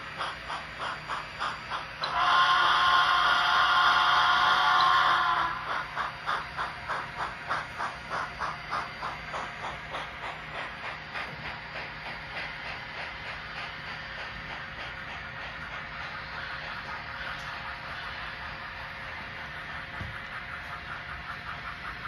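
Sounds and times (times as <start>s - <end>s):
model steam locomotive chuffs: 0.0s - 22.0s.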